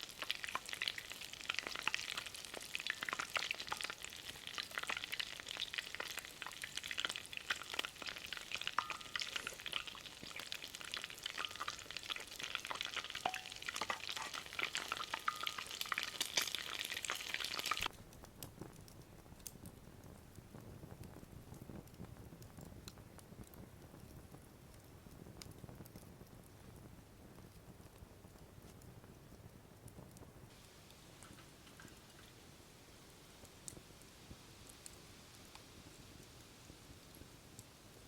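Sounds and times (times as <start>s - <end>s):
hot oil sizzling and popping: 0.0s - 38.0s.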